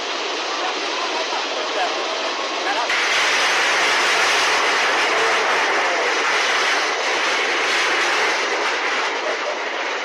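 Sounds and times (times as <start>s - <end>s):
flood water rushing: 0.0s - 10.0s.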